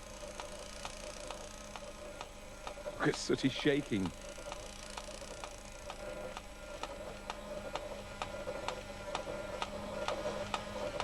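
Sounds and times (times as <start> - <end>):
clockwork toy ticking: 0.0 - 11.0
low steady hum: 0.0 - 11.0.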